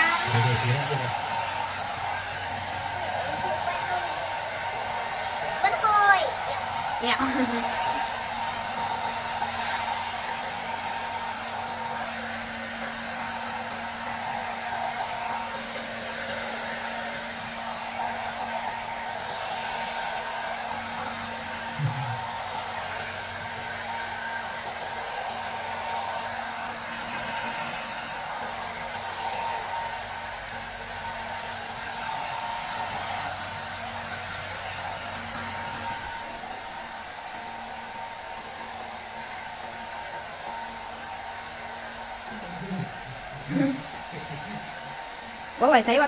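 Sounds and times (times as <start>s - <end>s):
hair dryer running: 0.0s - 46.0s.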